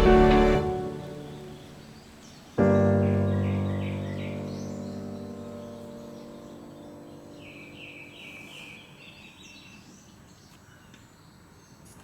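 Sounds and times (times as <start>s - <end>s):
songbird singing: 0.0s - 11.9s
background hiss: 0.0s - 12.0s.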